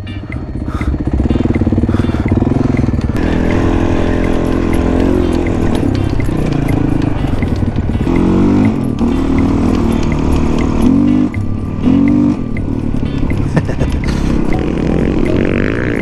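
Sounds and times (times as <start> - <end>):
dirt bike engine revving: 0.4 - 16.0.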